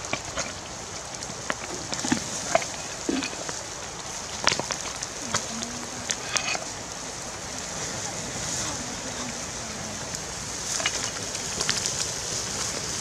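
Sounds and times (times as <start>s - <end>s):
steady hiss: 0.0s - 13.0s
wood fire crackling and popping: 0.0s - 13.0s.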